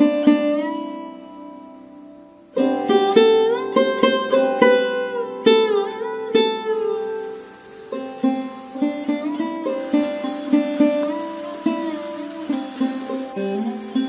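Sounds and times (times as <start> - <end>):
plucked string instrument melody: 0.0 - 14.0.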